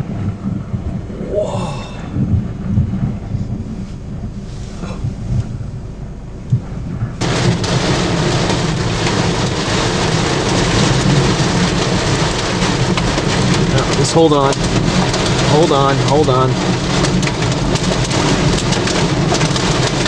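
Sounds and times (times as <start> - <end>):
heavy rain: 0.0 - 20.0
low storm rumble: 0.0 - 20.0.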